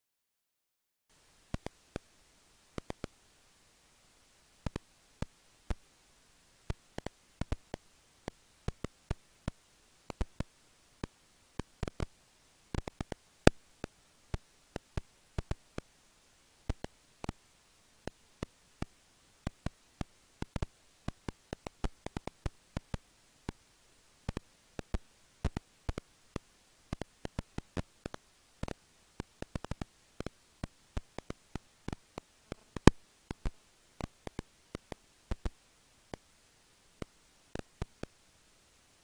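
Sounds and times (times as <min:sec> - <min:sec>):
bats echolocating clicks: 0:01.5 - 0:03.2, 0:04.6 - 0:05.9, 0:06.6 - 0:16.0, 0:16.6 - 0:23.6, 0:24.2 - 0:38.2.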